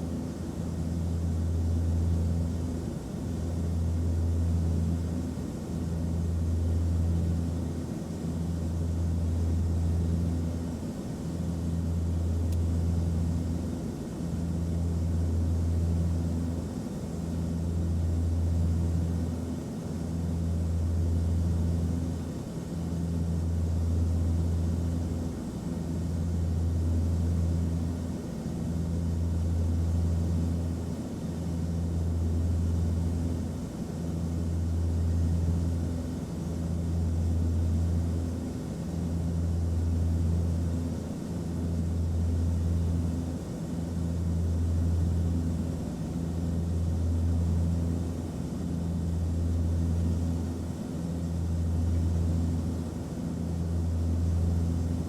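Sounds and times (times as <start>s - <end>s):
aircraft cabin drone: 0.0s - 55.0s.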